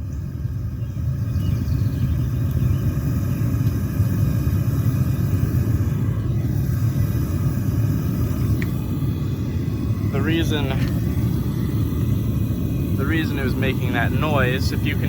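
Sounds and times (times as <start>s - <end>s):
propane burner low rumble: 0.0s - 15.0s.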